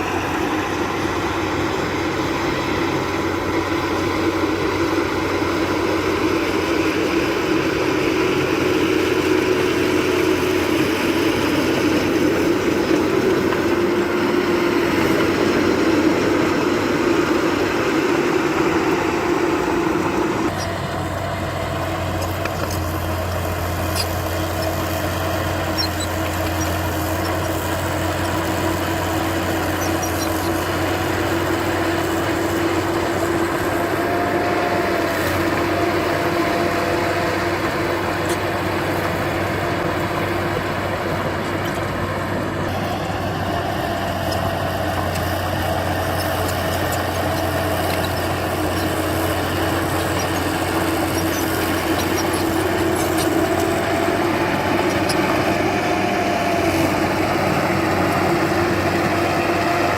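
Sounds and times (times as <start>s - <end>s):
heavy machinery diesel engine: 0.0s - 59.9s
low engine hum: 0.0s - 59.9s.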